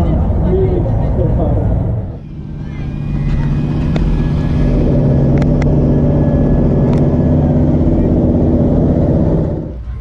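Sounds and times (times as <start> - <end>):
machinery droning: 0.0 - 10.0.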